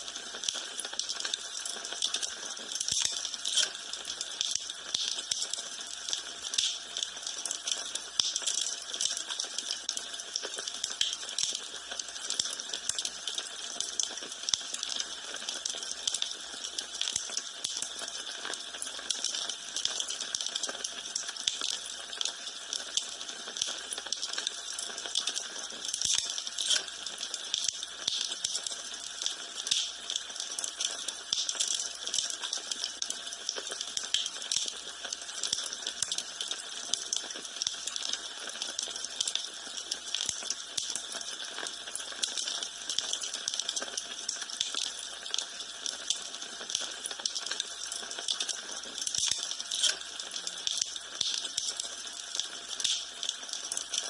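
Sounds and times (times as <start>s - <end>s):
wood fire crackling: 0.4s - 54.0s.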